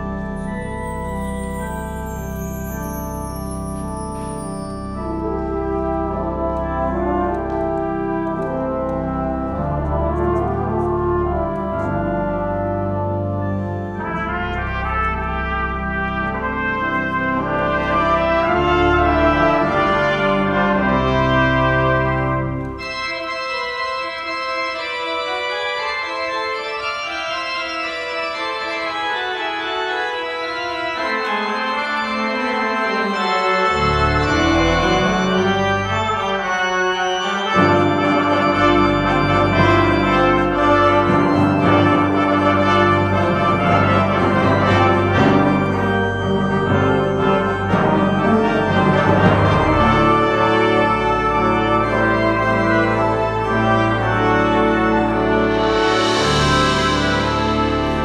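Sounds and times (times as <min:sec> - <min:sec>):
brass ensemble playing: 0:00.0 - 0:58.0
pipe organ: 0:00.0 - 0:58.0.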